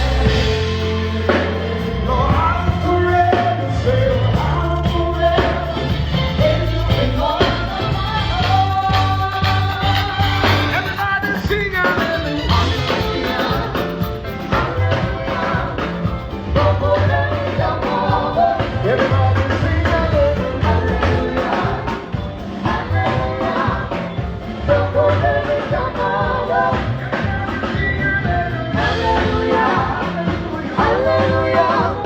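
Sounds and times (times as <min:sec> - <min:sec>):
bass line: 0:00.0 - 0:32.0
drum kit hits: 0:00.0 - 0:32.0
person singing: 0:00.0 - 0:32.0.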